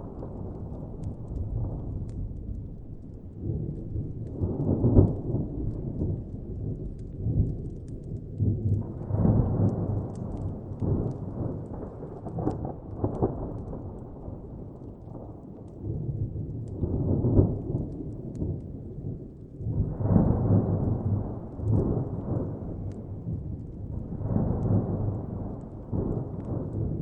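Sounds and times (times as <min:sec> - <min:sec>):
distant thunder rumbling: 0:00.0 - 0:07.6, 0:08.5 - 0:27.0
fire crackling: 0:00.0 - 0:27.0.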